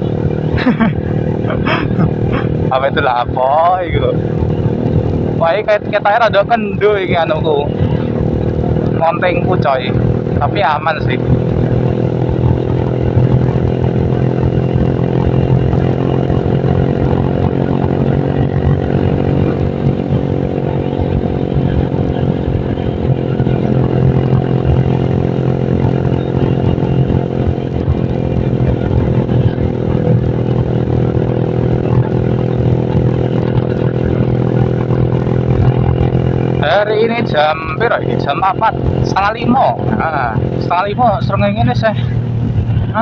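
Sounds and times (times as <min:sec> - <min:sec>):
scooter engine running: 0:00.0 - 0:43.0.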